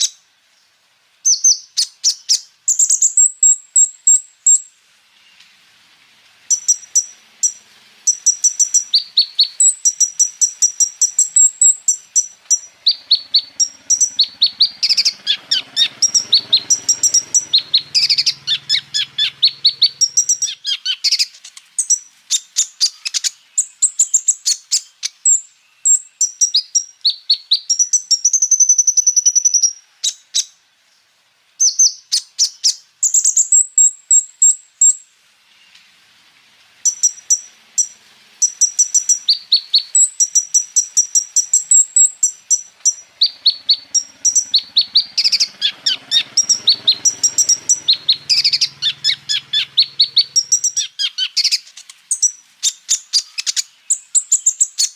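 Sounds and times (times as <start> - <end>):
bird singing high chirps and trills: 0.0 - 5.6, 6.5 - 35.8, 36.8 - 54.9.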